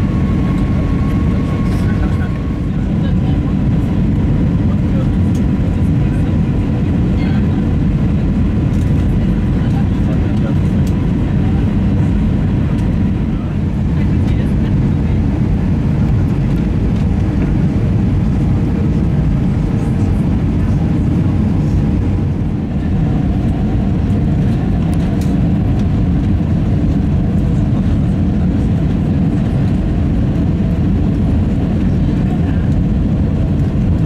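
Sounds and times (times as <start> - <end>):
aircraft cabin engine rumble: 0.0 - 34.0.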